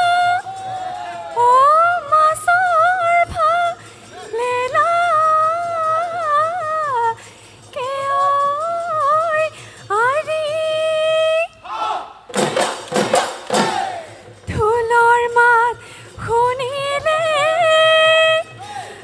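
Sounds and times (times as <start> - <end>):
woman singing unaccompanied: 0.0 - 11.6, 14.4 - 18.6.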